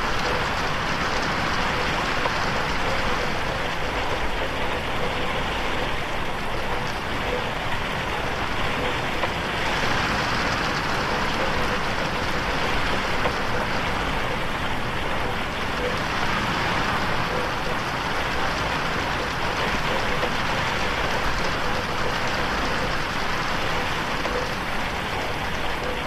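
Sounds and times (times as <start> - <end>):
rain on a window pane: 0.0 - 26.0.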